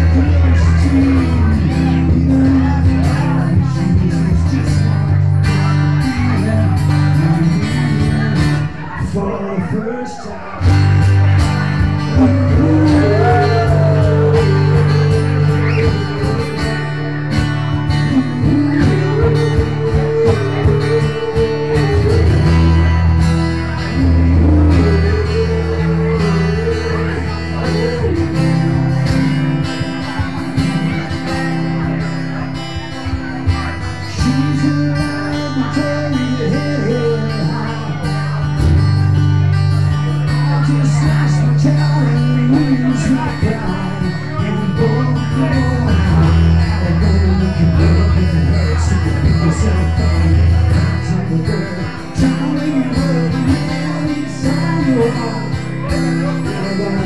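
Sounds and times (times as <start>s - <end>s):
low bass line: 0.0s - 9.2s, 10.6s - 57.0s
amplified acoustic guitar chords: 0.0s - 57.0s.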